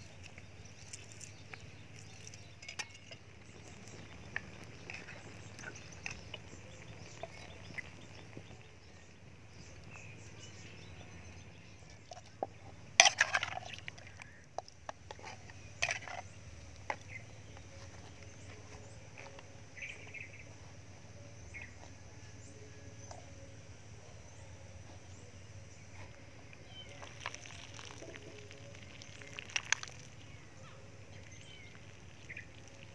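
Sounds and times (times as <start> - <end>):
low background noise: 0.0 - 32.9.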